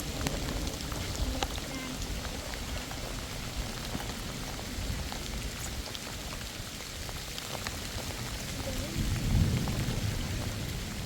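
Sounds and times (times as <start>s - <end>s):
single raindrops ticking: 0.0s - 10.8s
heavy rain falling: 0.0s - 11.0s.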